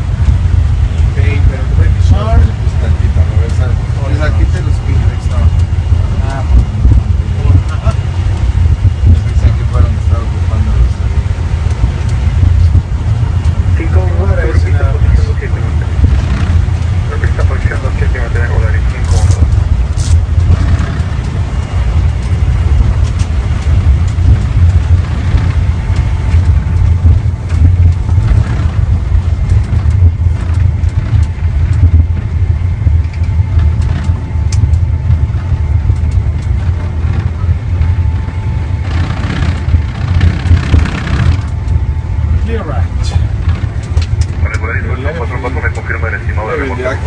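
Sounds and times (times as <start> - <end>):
jet cockpit low rumble: 0.0 - 47.0.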